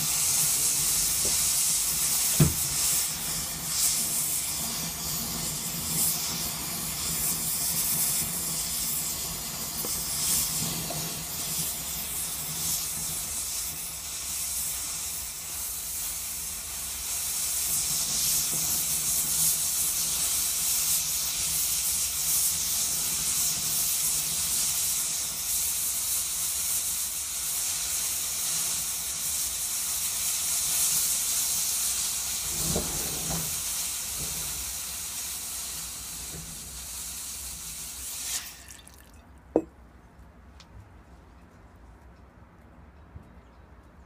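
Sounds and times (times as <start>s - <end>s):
smoke mixture hissing: 0.0s - 39.7s.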